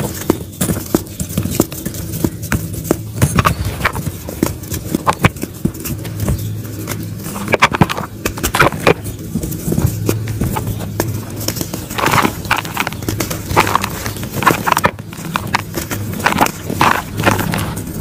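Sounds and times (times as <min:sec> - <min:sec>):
dried mud crunching and cracking: 0:00.0 - 0:18.0.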